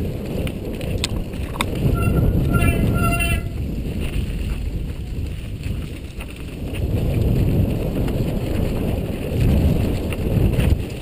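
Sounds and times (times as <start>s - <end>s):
mountain bike rattling over rocks: 0.0s - 11.0s
wind buffeting microphone: 0.0s - 11.0s.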